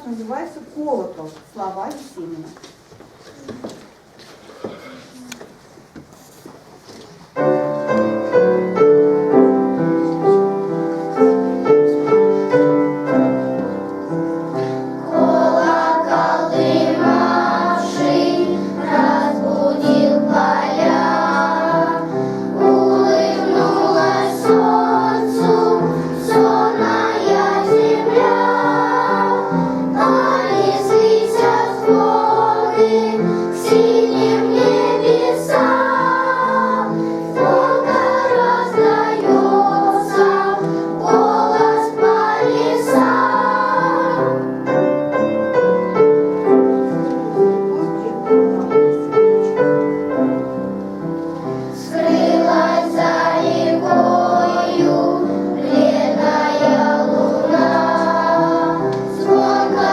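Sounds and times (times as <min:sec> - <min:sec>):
piano accompaniment: 0:06.7 - 0:59.9
children's choir singing: 0:07.4 - 0:59.9.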